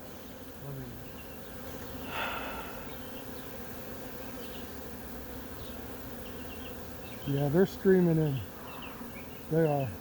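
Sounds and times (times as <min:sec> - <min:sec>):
bee swarm buzzing: 0:00.0 - 0:10.0.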